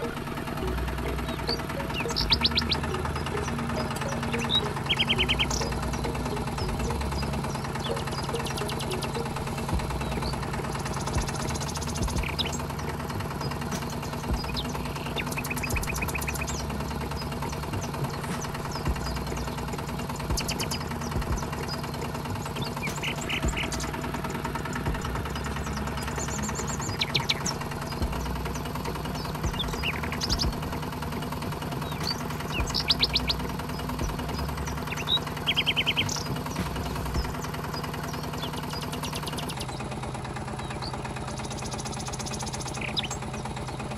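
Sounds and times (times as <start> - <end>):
tractor engine knocking idle: 0.0 - 43.9.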